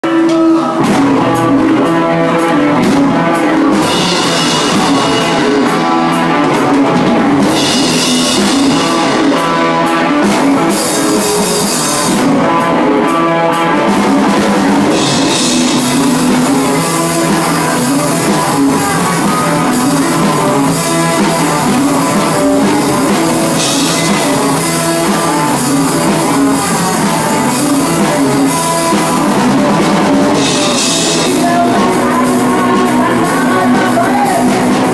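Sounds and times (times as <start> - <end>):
electric guitars: 0.0 - 34.9
live rock band playing: 0.0 - 34.9.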